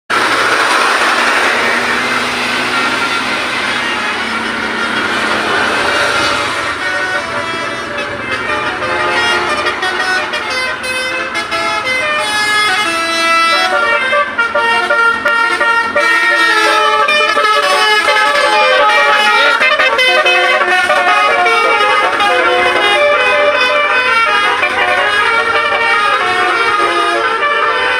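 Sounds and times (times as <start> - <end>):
musical car horns playing melody: 0.2 - 27.9.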